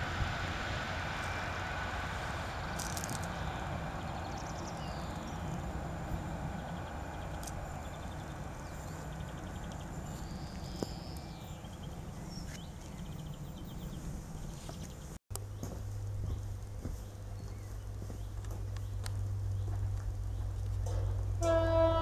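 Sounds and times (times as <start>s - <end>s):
diesel railcar rumbling: 0.0s - 22.0s
birds chirping: 3.3s - 21.6s.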